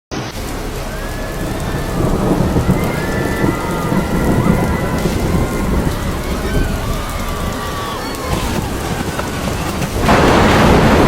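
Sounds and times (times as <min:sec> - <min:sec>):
heavy rain: 0:00.1 - 0:11.0
strong wind gusts: 0:00.2 - 0:11.0.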